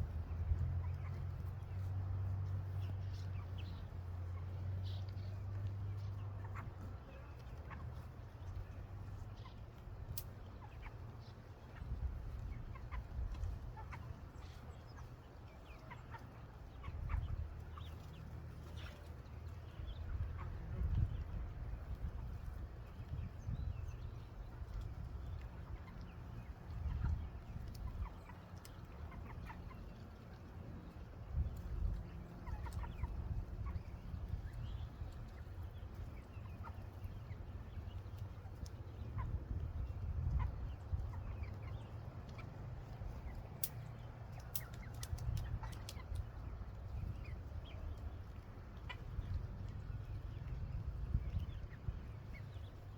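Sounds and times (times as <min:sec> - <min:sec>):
chickens clucking and peeping: 0:00.0 - 0:52.9
steady low rumble: 0:00.0 - 0:52.9.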